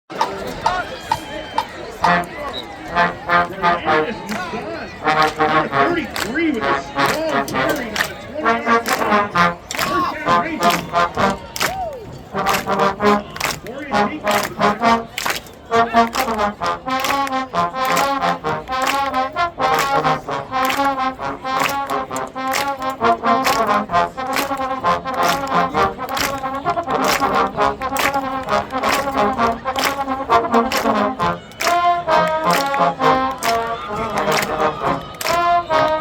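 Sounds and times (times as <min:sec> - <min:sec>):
trombones playing upbeat tune: 0:00.1 - 0:36.0.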